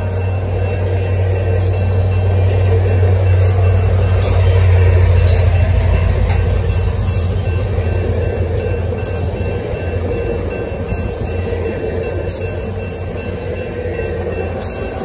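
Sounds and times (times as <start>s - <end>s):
diesel locomotive engine drone: 0.0s - 15.0s
train cars rumbling on rails: 0.0s - 15.0s.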